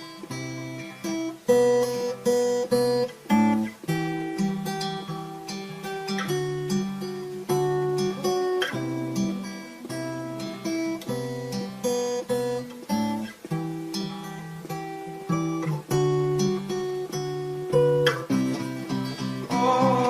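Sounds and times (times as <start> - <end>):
acoustic guitar chords: 0.0 - 20.0
guitar sliding notes: 0.0 - 20.0.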